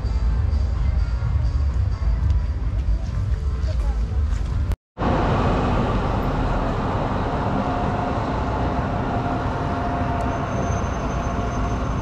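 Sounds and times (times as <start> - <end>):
tram rumble and rail noise: 0.0 - 12.0.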